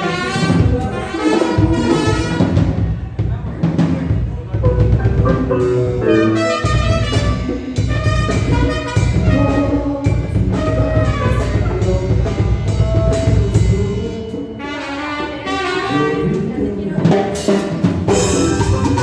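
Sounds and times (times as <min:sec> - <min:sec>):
live cumbia band playing: 0:00.0 - 0:19.0.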